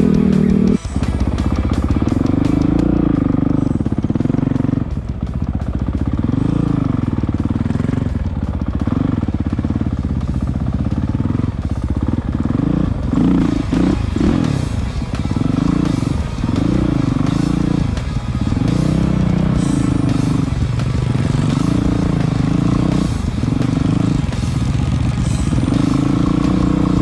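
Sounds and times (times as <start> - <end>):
motorcycle engine revving: 0.0 - 27.0
steady held tone: 0.0 - 27.0.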